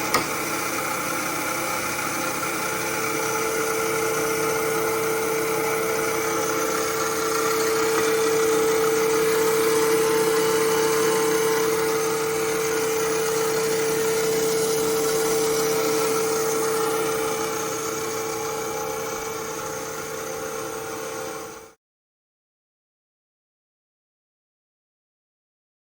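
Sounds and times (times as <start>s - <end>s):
grinder machine humming with whine: 0.0s - 21.8s.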